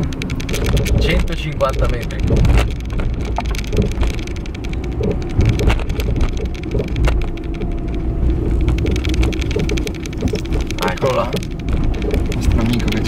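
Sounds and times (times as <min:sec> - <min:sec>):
car road rumble: 0:00.0 - 0:13.0
small ticks and crackles: 0:00.0 - 0:13.0.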